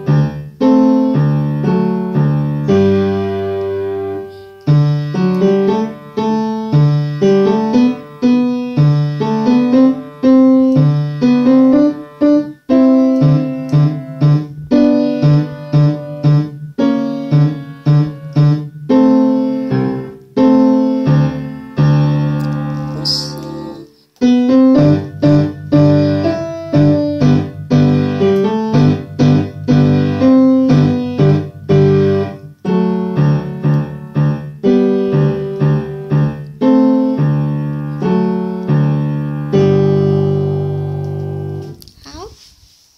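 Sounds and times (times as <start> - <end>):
upright piano piece: 0.0 - 42.2.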